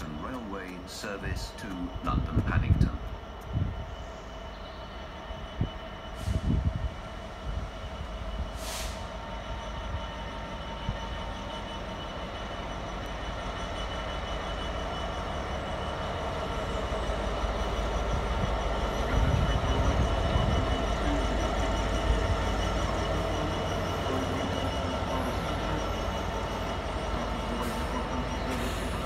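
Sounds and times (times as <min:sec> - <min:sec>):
diesel locomotive engine rumbling: 0:00.0 - 0:29.0.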